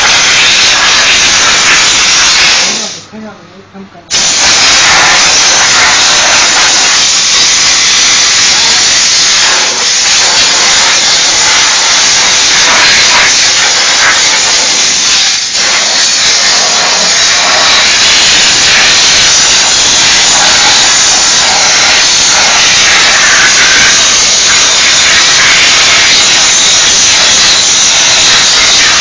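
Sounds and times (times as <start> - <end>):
steam cleaner hissing: 0.0 - 3.0, 4.1 - 29.0.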